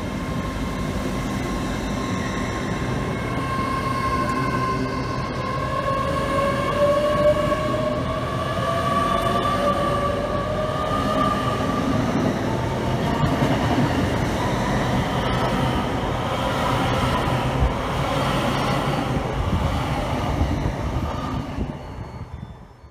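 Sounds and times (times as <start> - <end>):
train rumbling on rails: 0.0 - 22.9.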